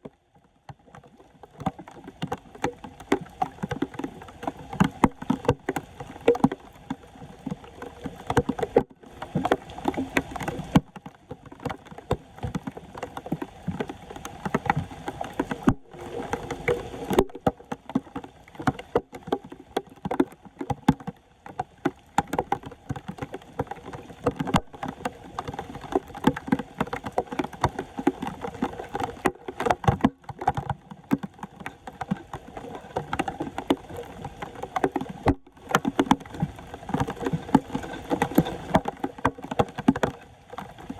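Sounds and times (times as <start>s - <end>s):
floodwater splashing and sloshing: 0.0s - 40.9s.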